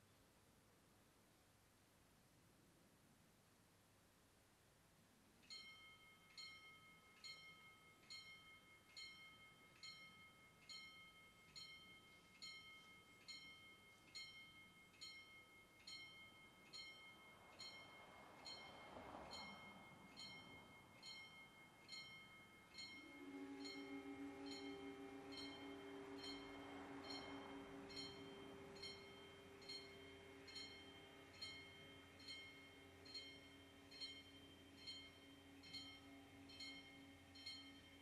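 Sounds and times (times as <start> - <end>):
low steady tone: 5.4 - 38.0
crossing warning bells ringing: 5.5 - 38.0.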